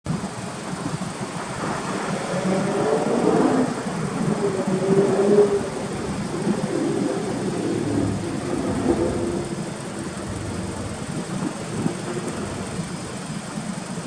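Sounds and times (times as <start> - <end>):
turbocharged car engine running: 0.0 - 14.0.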